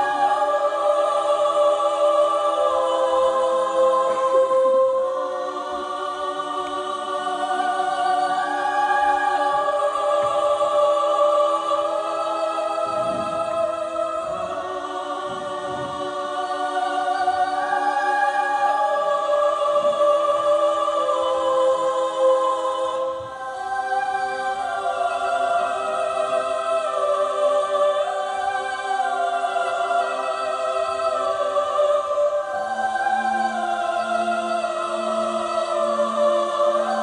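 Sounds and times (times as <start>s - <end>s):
choir singing long chords: 0.0s - 37.0s.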